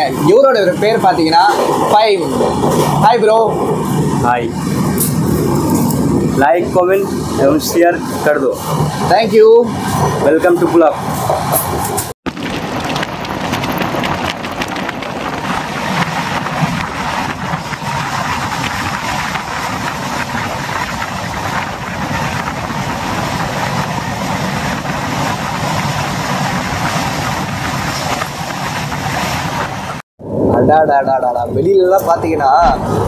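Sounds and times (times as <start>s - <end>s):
rushing air: 0.0s - 30.5s, 32.6s - 33.0s
train wheels rumbling on rails: 0.0s - 33.0s.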